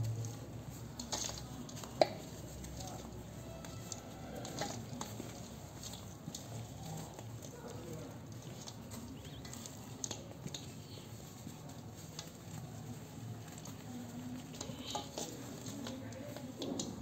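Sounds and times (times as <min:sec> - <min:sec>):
dry clay crunching in hands: 0:00.0 - 0:17.0
powder pattering into metal basin: 0:00.0 - 0:17.0.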